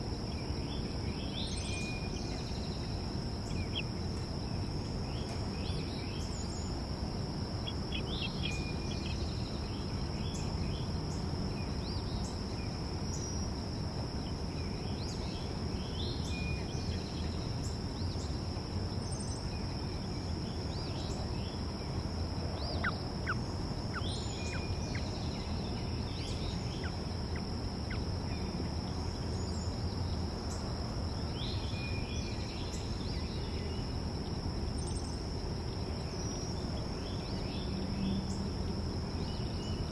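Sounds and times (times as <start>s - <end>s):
constant low rumble: 0.0s - 39.9s.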